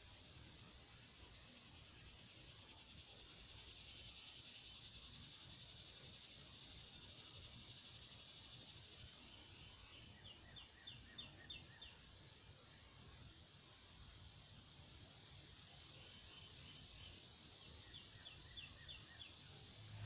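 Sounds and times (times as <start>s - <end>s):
high insect buzz: 0.0s - 20.0s.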